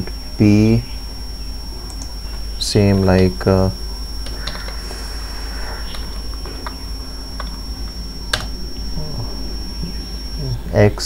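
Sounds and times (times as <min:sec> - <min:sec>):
electrical hum with high whine: 0:00.0 - 0:11.0.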